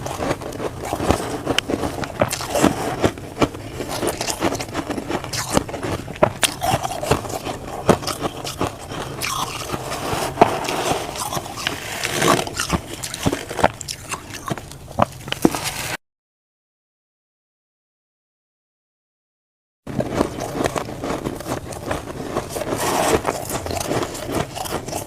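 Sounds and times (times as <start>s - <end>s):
frost being chewed crunching: 0.0s - 16.0s, 19.9s - 25.0s.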